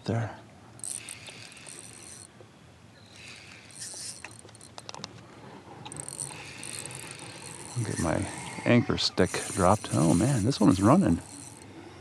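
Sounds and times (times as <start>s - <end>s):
fishing reel whirring: 0.8s - 2.3s, 3.0s - 5.0s, 5.8s - 12.0s.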